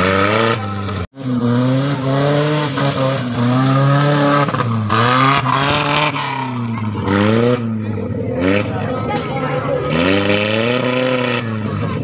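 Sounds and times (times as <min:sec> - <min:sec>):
off-road buggy engine revving: 0:00.0 - 0:12.0.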